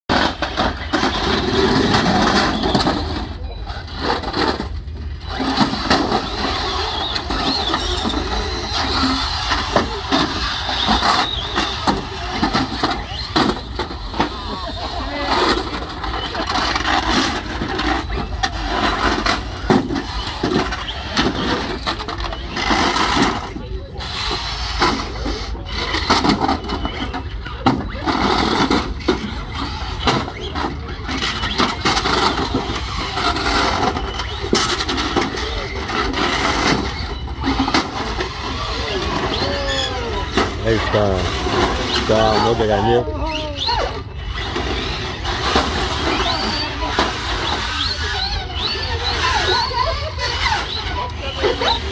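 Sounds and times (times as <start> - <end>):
people talking: 0.1 - 51.9
toy car motors whining: 0.1 - 51.9
toy cars knocking together: 0.1 - 51.9.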